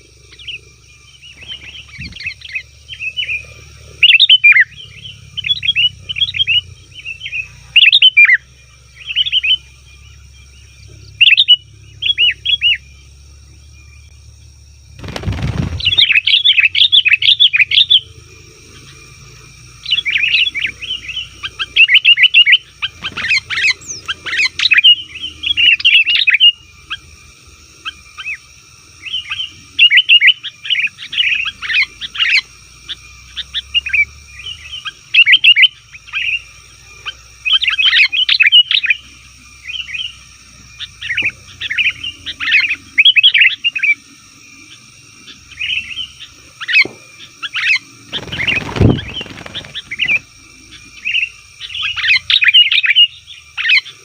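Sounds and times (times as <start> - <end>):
bulbuls chirping: 0.0 - 54.0.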